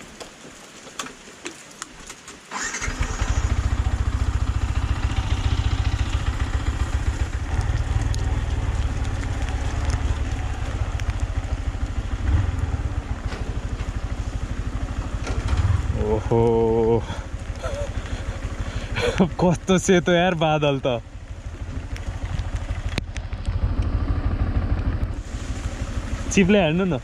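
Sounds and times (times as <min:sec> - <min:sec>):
motorcycle engine starting and idling: 0:02.5 - 0:27.0.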